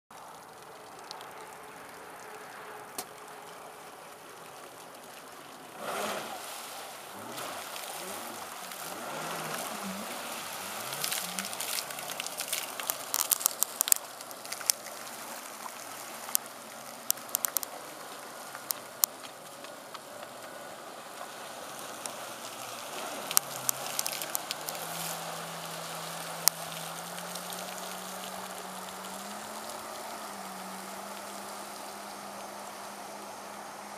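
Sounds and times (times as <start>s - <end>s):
sharp crackles: 0.1s - 33.0s
churned water hiss: 0.2s - 33.9s
jet ski engine accelerating: 5.2s - 33.9s.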